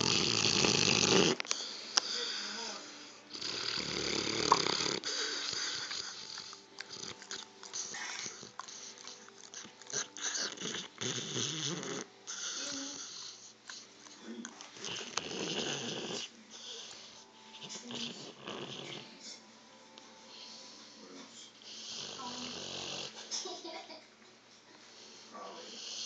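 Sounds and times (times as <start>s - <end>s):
dog snoring: 0.0s - 19.5s, 20.3s - 23.2s, 24.9s - 26.0s
dog breathing softly: 0.0s - 23.2s, 24.8s - 26.0s.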